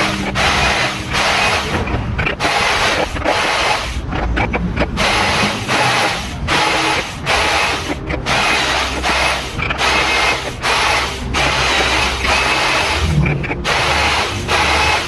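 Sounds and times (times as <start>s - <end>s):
low motor hum: 0.0s - 15.0s
power tool grinding wood: 0.0s - 15.0s.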